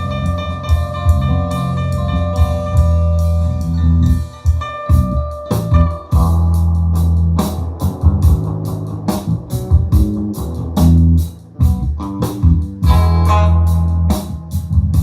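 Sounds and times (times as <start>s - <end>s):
rock music over loudspeaker: 0.0s - 15.0s.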